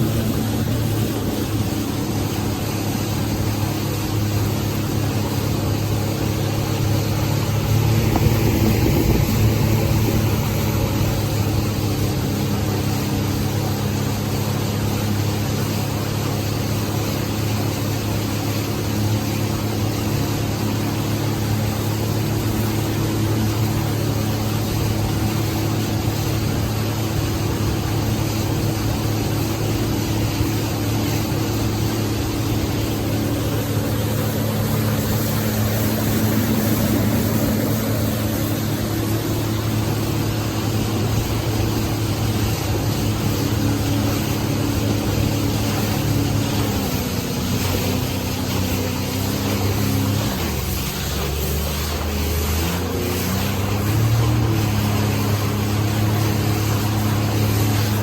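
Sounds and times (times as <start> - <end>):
jet ski engine drone: 0.0 - 58.0
water wash: 0.0 - 58.0.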